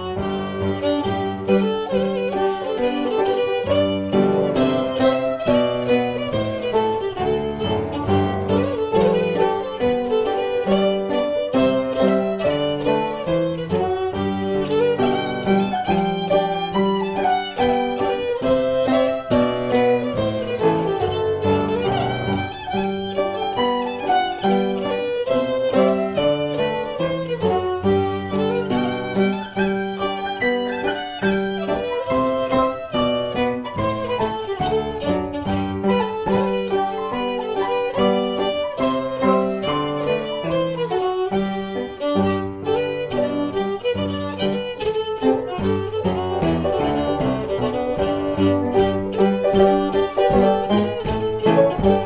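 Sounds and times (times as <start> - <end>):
fiddle melody: 0.0 - 52.0
piano chords and bass notes: 0.0 - 52.0.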